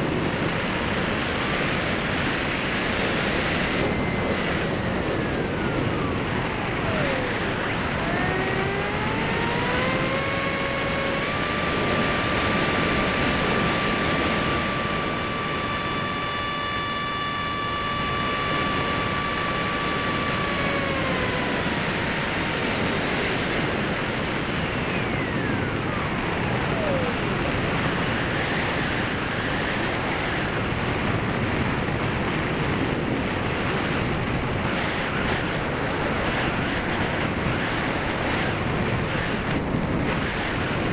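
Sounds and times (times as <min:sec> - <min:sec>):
model plane motor whining: 0:00.0 - 0:40.9
wind rush: 0:00.0 - 0:40.9.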